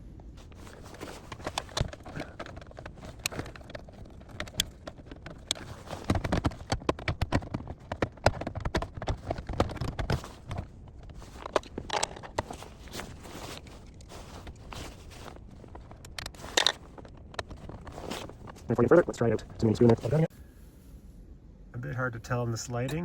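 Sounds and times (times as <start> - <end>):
plastic parts clicking and knocking: 0.4 - 20.3.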